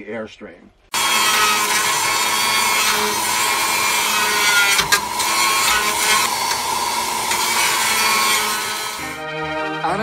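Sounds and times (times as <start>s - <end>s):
handheld grinder grinding metal: 0.9s - 9.2s.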